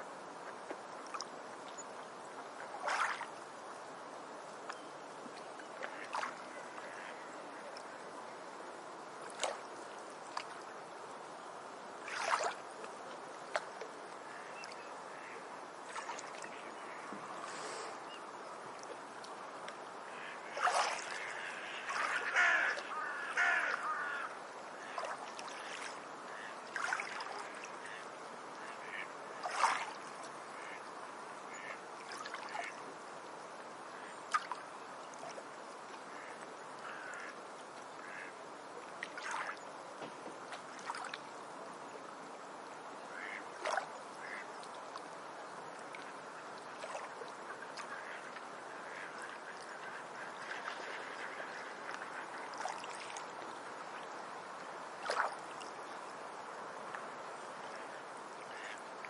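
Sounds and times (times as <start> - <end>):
water washing on beach: 0.0 - 59.0.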